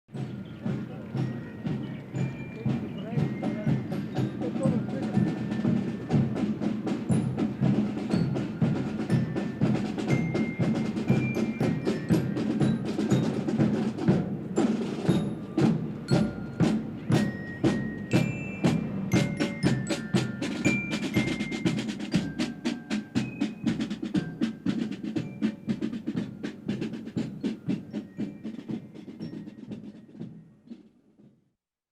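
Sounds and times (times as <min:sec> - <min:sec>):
xylophone notes: 0:00.1 - 0:30.5
drum band marching rhythm: 0:00.1 - 0:31.5.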